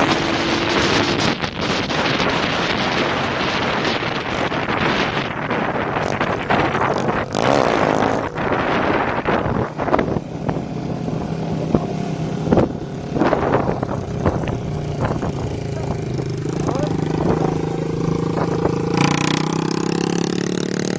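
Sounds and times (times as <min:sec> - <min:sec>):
motorcycle engines running: 0:00.0 - 0:20.9
wind noise on microphone: 0:00.0 - 0:20.9.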